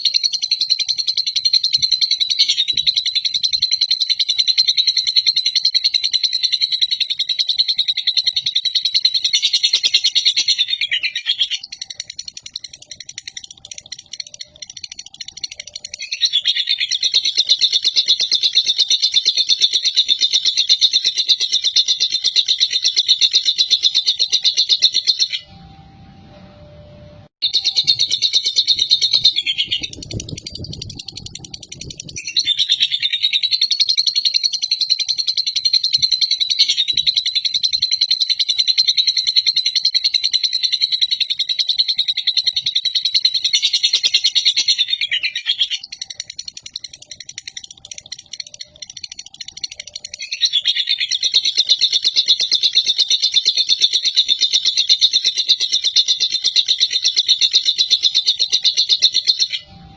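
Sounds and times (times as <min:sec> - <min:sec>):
lovebird trilling song: 0:00.0 - 0:25.5, 0:27.4 - 0:59.9.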